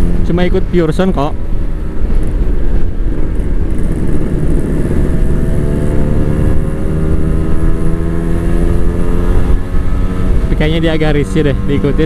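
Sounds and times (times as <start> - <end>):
motorcycle engines running: 0.0 - 12.0
wind rush on microphone: 0.0 - 12.0.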